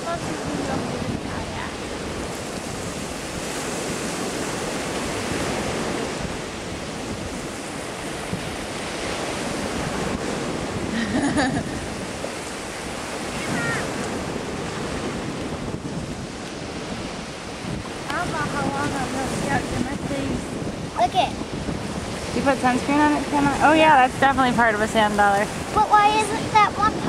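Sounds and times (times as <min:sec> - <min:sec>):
small waves breaking on beach: 0:00.0 - 0:27.0
wind buffeting microphone: 0:00.0 - 0:27.0.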